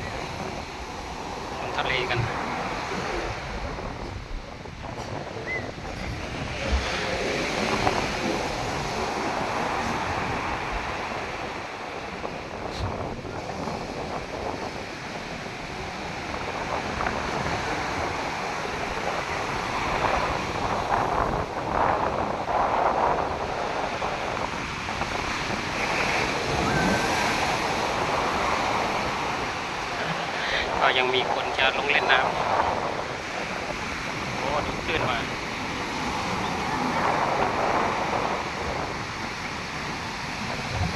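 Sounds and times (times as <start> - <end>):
sea waves breaking on shore: 0.0 - 40.9
wind buffeting microphone: 0.0 - 40.9.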